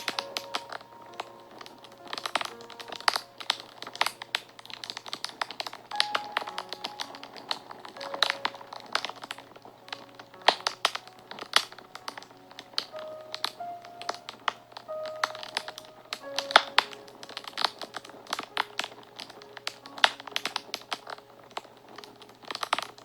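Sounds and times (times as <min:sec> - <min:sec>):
soft background music: 0:00.0 - 0:23.0
wood fire crackling and popping: 0:00.0 - 0:23.0.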